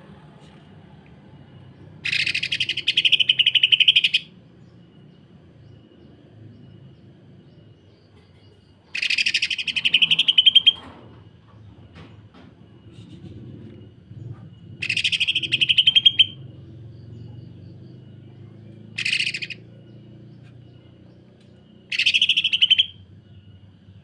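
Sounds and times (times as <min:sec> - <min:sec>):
bird singing rattling notes: 0:01.5 - 0:24.0.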